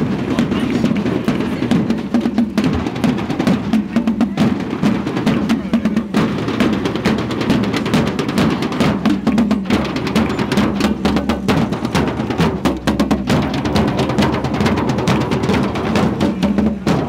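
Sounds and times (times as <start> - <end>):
drum band playing fast beat: 0.0 - 17.0.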